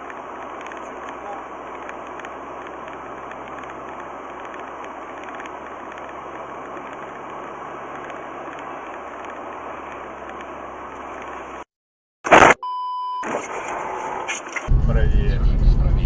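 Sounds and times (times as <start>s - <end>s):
low engine hum: 0.0s - 11.6s, 14.6s - 16.0s
tyre road noise: 0.0s - 11.7s, 13.2s - 16.0s.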